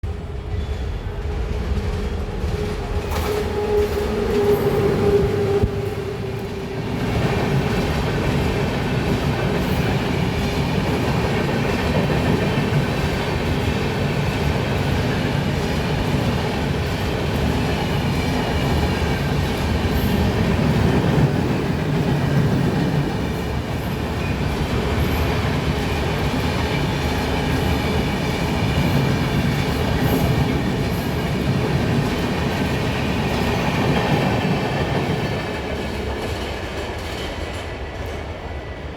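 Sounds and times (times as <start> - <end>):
train wheels rumbling on track: 0.0 - 38.9.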